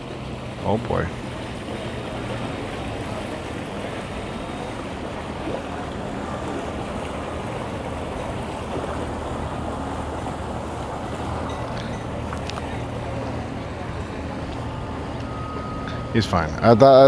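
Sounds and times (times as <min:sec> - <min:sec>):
outboard motor idling: 0:00.0 - 0:17.0
water noise: 0:00.0 - 0:17.0
wind: 0:00.0 - 0:17.0.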